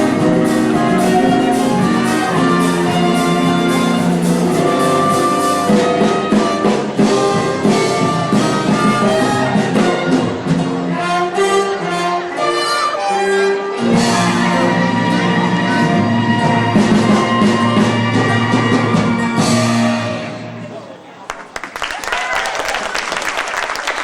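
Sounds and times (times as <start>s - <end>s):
brass and strings playing: 0.0s - 20.7s.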